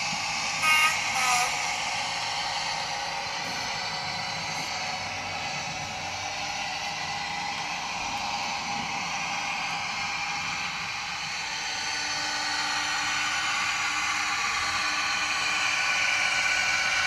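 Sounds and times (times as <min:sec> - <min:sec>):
model locomotive engine sound: 0:00.0 - 0:17.0.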